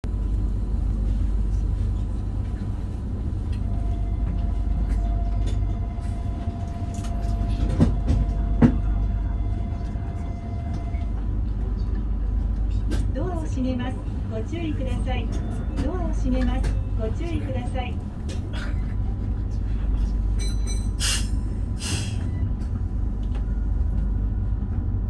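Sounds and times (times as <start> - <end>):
train equipment rumble: 0.0 - 25.0.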